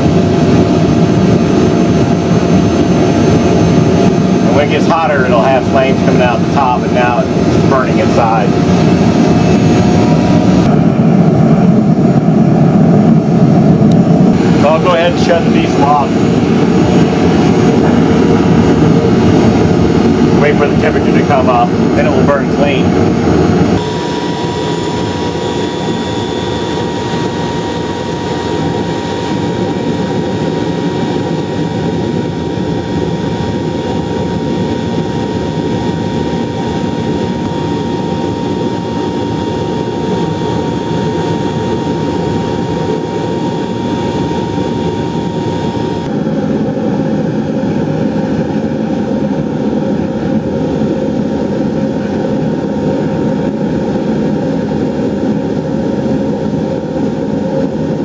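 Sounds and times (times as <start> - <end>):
furnace burner rushing: 0.0 - 46.5.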